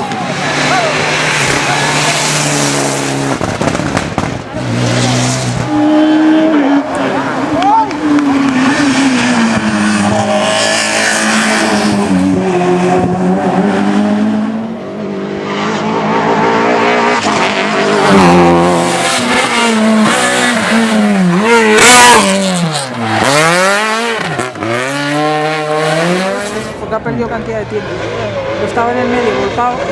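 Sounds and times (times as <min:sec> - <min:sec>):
rally car engine revving: 0:00.0 - 0:29.9.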